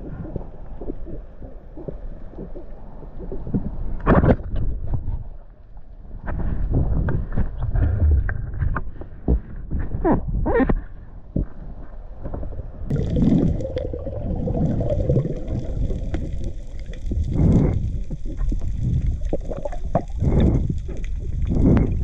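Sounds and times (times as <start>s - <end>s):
muffled underwater rumble: 0.0s - 22.0s.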